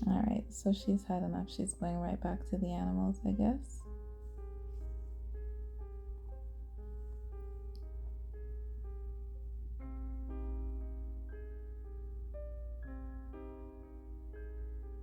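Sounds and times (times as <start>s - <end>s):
gentle piano music: 0.0s - 15.0s
steady low hum: 0.0s - 15.0s.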